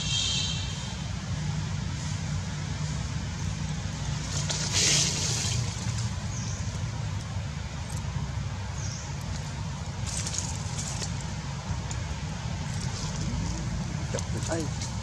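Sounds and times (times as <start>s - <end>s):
constant hiss: 0.0s - 15.0s.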